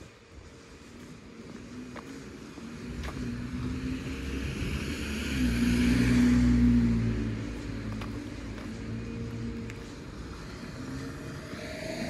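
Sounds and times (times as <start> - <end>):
vehicle passing by: 0.5 - 12.0.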